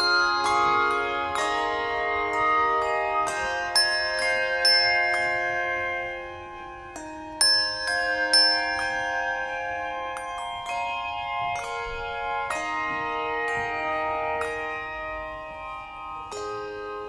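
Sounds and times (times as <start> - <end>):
handbells ringing: 0.0 - 17.0.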